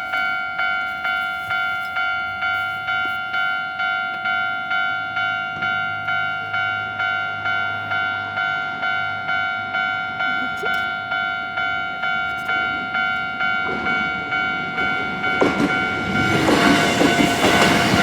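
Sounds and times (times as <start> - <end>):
level crossing electronic bell: 0.0 - 18.0.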